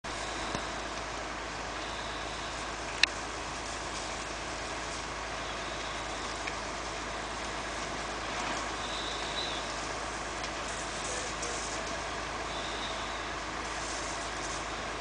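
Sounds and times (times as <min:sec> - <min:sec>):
heavy diesel engines rumbling: 0:00.0 - 0:15.0.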